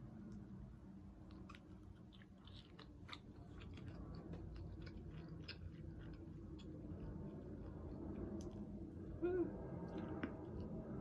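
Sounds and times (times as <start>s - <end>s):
person chewing food: 1.2s - 9.0s, 9.6s - 11.0s.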